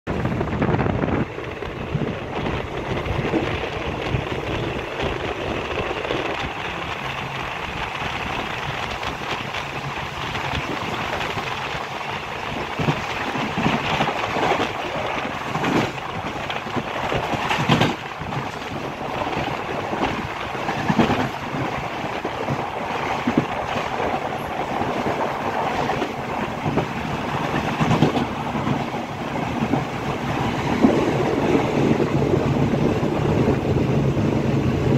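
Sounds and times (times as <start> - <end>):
train carriage rumble: 0.1 - 34.9
wheels clacking over rail joints: 1.1 - 34.9.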